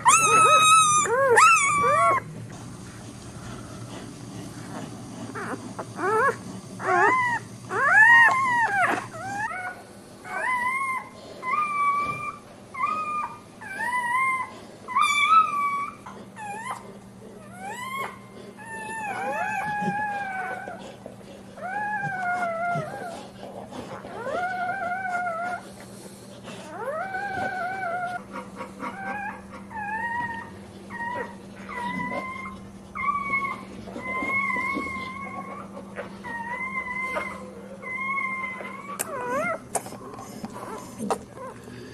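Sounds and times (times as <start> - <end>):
puppies crying: 0.0 - 2.4, 5.3 - 25.8, 26.5 - 41.9
faint steady hum: 0.0 - 41.9.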